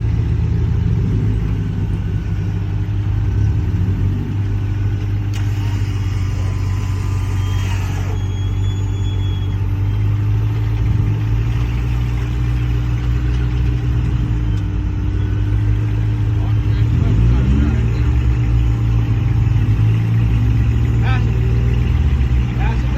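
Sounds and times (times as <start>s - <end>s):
engine rumbling: 0.0s - 22.9s.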